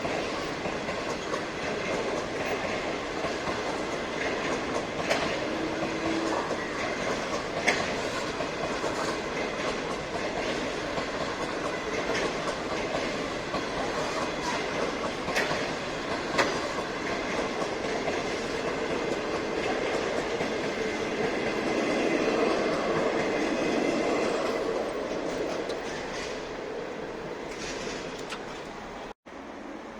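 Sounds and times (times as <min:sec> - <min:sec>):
wheels clacking over track: 0:00.0 - 0:26.5.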